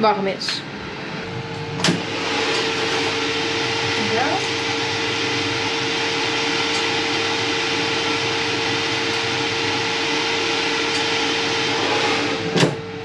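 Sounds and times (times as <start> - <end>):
airfryer fan humming: 0.0 - 13.0.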